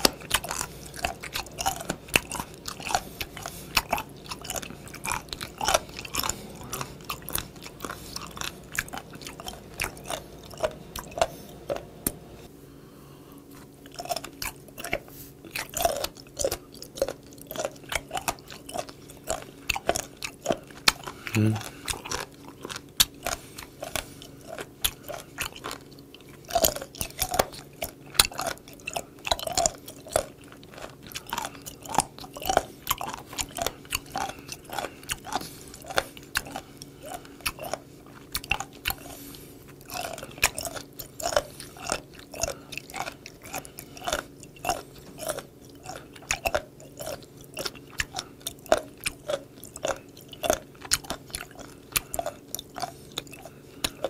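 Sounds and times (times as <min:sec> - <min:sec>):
crunchy chewing: 0:00.0 - 0:12.5, 0:13.4 - 0:54.0.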